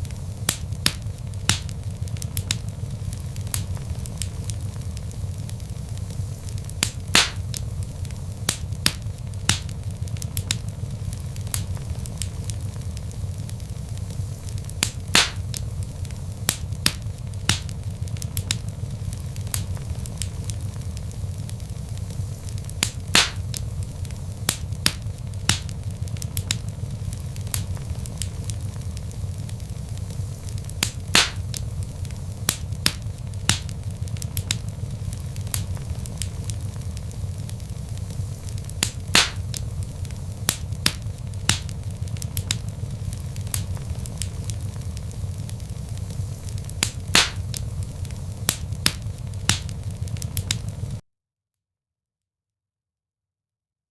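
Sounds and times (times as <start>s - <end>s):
fire popping and snapping: 0.0s - 51.0s
log fire crackling: 0.0s - 51.0s.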